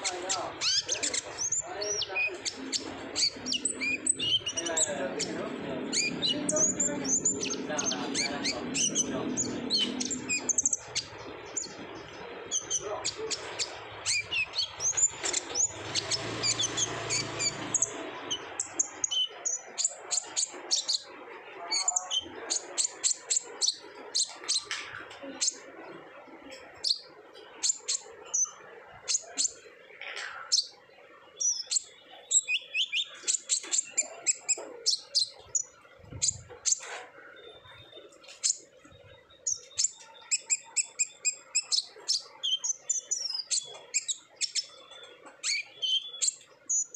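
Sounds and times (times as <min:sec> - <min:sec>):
bird singing rapid chirps: 0:00.0 - 0:46.9.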